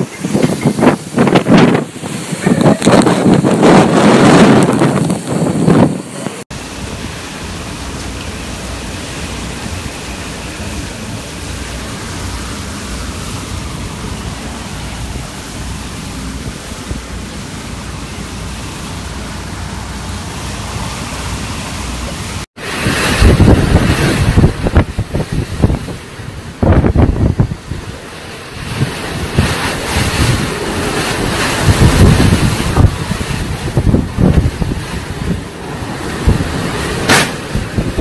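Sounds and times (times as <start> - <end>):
storm wind rushing: 0.0 - 38.0
wind gusts buffeting microphone: 0.0 - 38.0.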